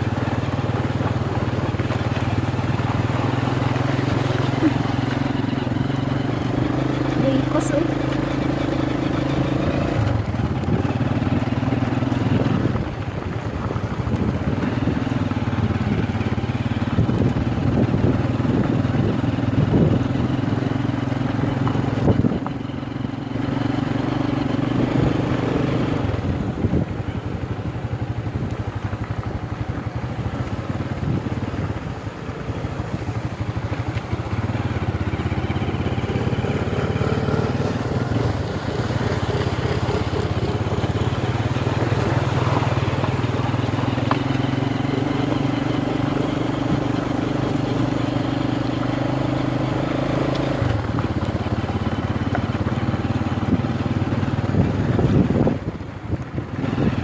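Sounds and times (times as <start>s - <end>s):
motor scooter engine running: 0.0s - 57.0s.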